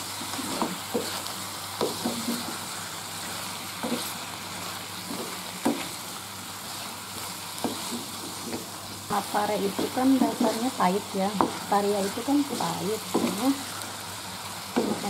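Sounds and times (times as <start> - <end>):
stir-frying sizzle: 0.0 - 15.0.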